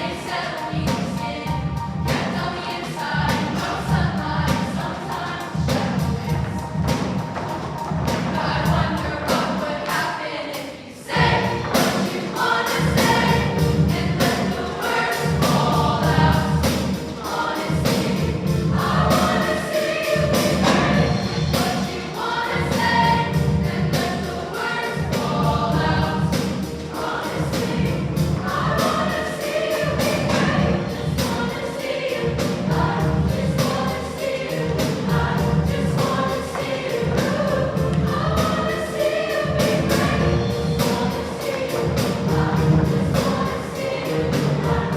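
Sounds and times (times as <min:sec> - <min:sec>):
accompaniment with steady beat: 0:00.0 - 0:10.1, 0:11.1 - 0:44.9
choir singing: 0:00.0 - 0:44.9.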